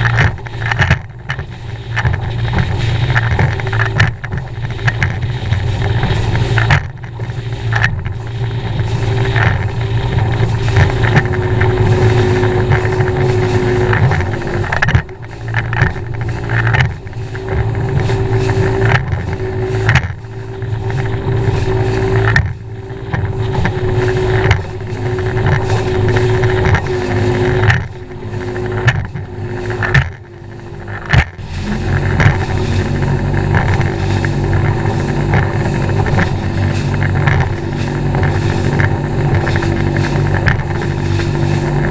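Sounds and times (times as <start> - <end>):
outboard motor running: 0.0 - 41.9
rushing wind: 0.0 - 41.9
water spray: 0.0 - 41.9.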